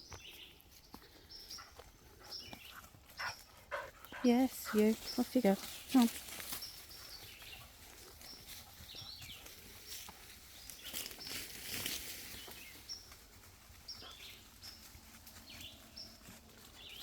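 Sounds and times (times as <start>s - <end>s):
birds chirping: 0.0s - 17.0s
footsteps rustling on a trail: 0.0s - 17.0s.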